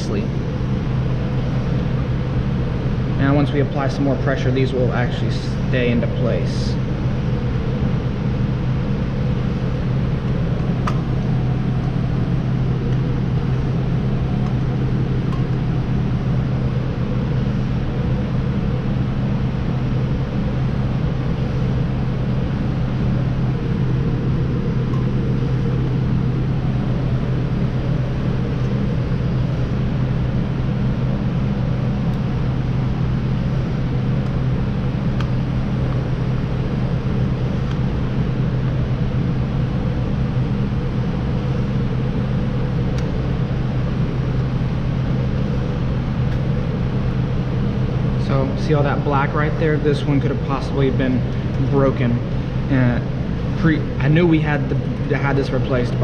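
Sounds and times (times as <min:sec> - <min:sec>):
mechanical drone with low hum: 0:00.0 - 0:56.0.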